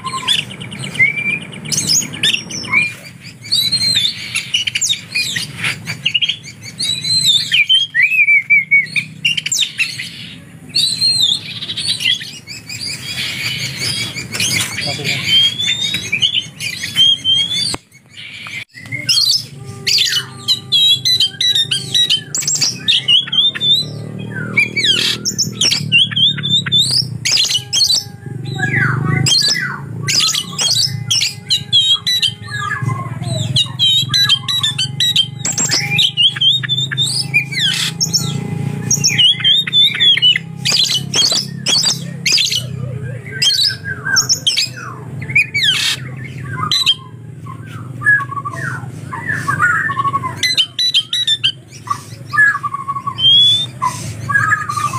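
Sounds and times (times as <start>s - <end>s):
songbird singing varied song: 0.0s - 54.9s.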